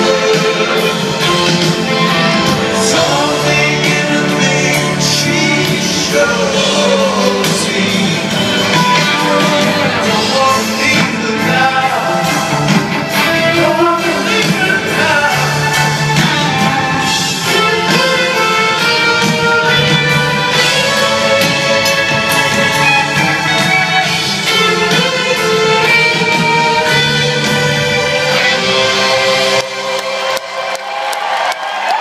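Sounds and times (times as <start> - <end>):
live band with singing: 0.0 - 32.0.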